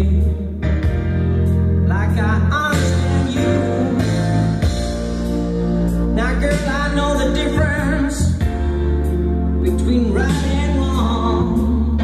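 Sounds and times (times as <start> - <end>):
music with singing and bass: 0.0 - 12.0.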